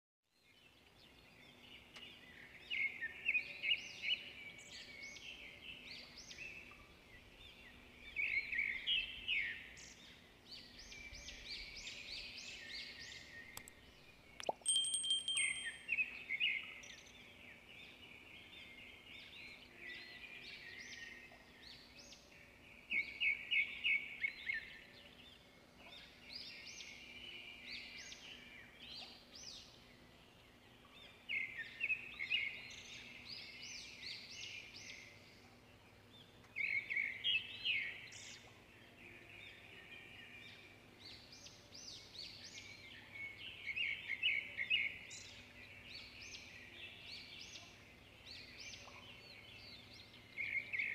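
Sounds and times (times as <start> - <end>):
birds chirping and trilling: 0.5 - 50.9.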